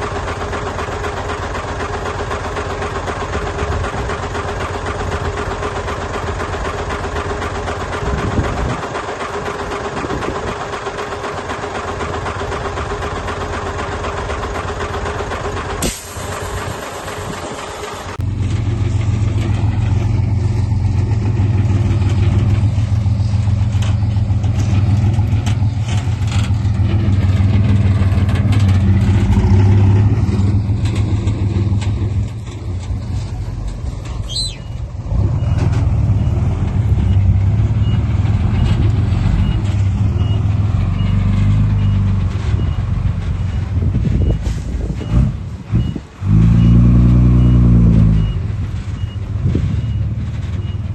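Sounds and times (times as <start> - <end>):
deep diesel engine running: 0.0 - 50.9.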